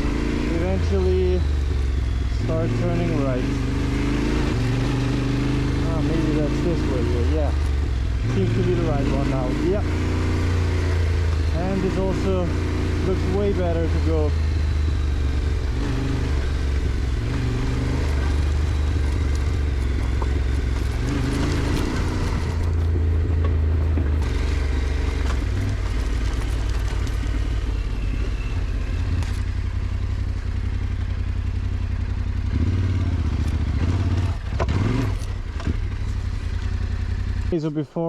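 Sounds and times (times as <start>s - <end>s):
motorcycle engine revving: 0.0s - 37.8s.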